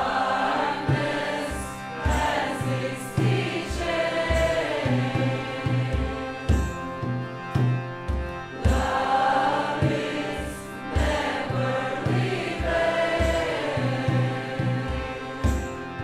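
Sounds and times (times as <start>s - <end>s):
women singing a chant: 0.0s - 6.5s, 8.7s - 15.6s
harmonium drone: 0.0s - 16.0s.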